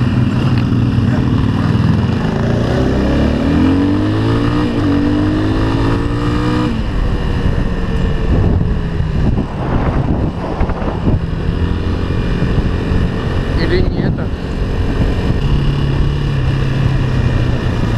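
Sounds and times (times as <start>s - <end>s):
off-road vehicle engine: 0.0s - 17.9s.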